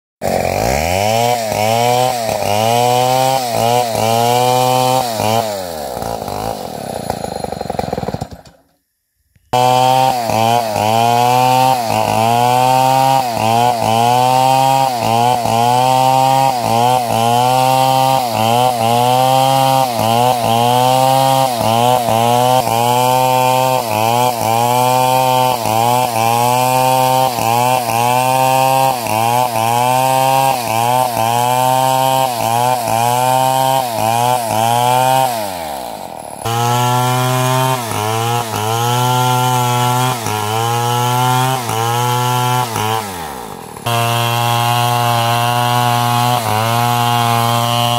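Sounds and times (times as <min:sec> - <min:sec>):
chainsaw cutting timber: 0:00.2 - 0:08.8, 0:09.5 - 0:47.9.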